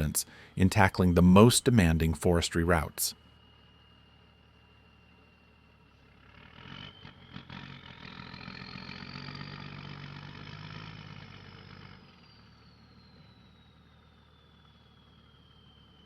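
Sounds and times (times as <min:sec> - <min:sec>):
high engine whine: 0:00.0 - 0:16.0
truck engine pulling under load: 0:00.0 - 0:16.0.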